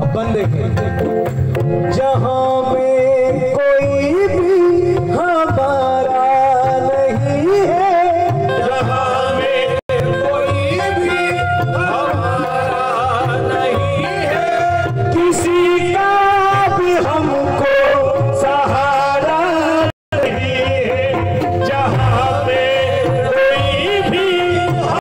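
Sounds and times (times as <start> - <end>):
hand drum rhythm: 0.0 - 25.0
harmonium: 0.0 - 25.0.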